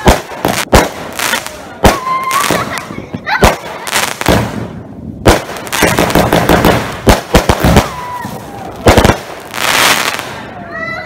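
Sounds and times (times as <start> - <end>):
fireworks bangs: 0.0 - 10.8
fireworks crackling: 0.0 - 10.8.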